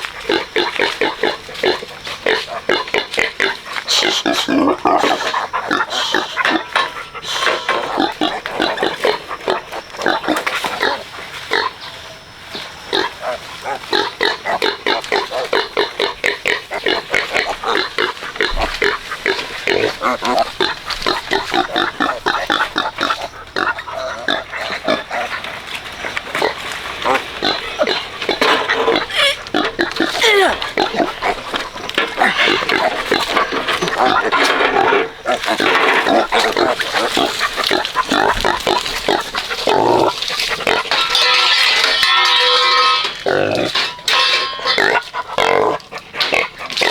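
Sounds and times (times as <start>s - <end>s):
pigs squealing and grunting: 0.0s - 46.9s.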